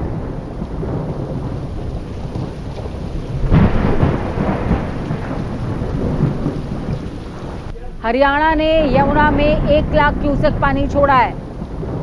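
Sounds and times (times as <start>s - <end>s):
rain: 0.0s - 12.0s
thunder rumbling: 0.0s - 12.0s.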